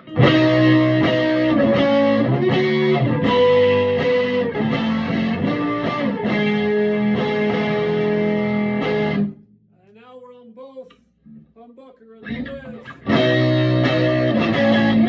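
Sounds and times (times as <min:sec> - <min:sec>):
loud electric guitar chords: 0:00.0 - 0:09.4, 0:12.3 - 0:15.0.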